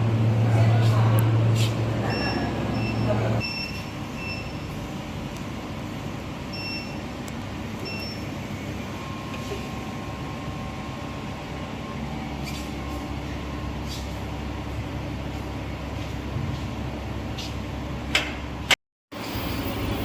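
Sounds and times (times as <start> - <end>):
machine hum and rumble: 0.0 - 20.0.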